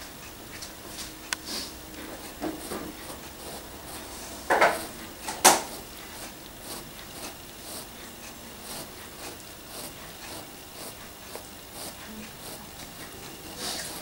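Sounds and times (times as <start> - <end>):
cat licking fabric: 1.4 - 14.0.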